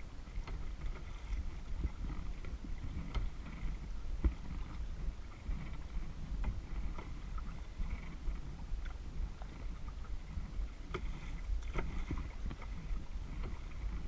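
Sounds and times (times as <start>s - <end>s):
paddle splashing in water: 0.0s - 14.0s
wind rumble on microphone: 0.0s - 14.0s.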